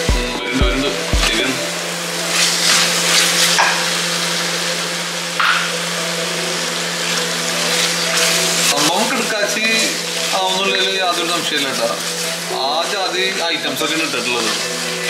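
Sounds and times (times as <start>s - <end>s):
masala sizzling in a frying pan: 1.9s - 15.0s.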